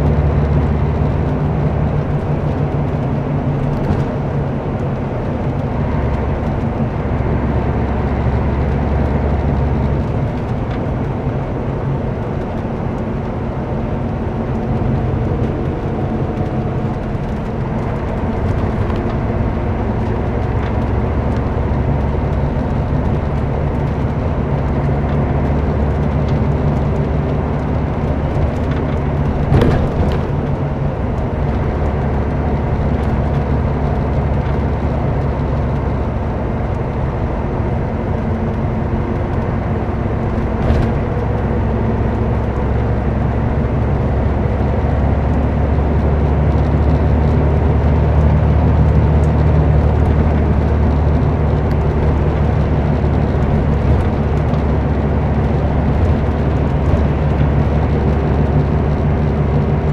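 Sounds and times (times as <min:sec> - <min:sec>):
coach diesel engine droning: 0:00.0 - 0:59.9
road and tyre noise: 0:00.0 - 0:59.9.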